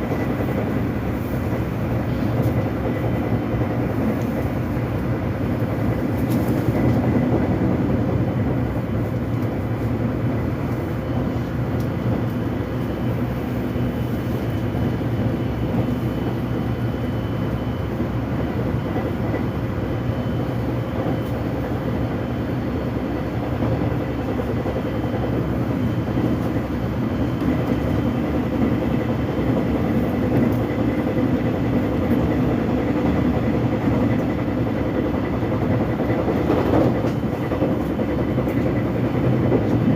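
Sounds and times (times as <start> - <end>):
subway train wheels rumbling: 0.0 - 39.9.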